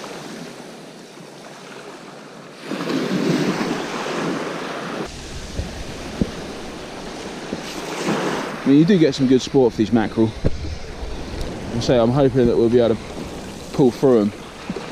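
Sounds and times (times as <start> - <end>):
sea waves breaking on beach: 0.0 - 14.9.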